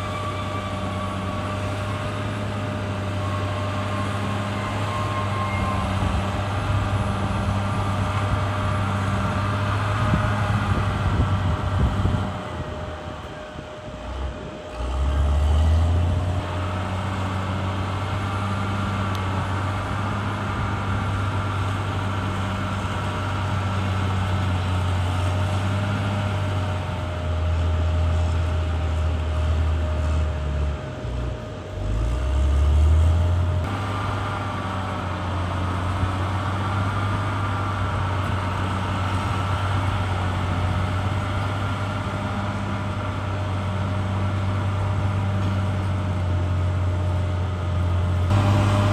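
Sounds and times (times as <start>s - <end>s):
bulldozer diesel engine under load: 0.0s - 48.9s.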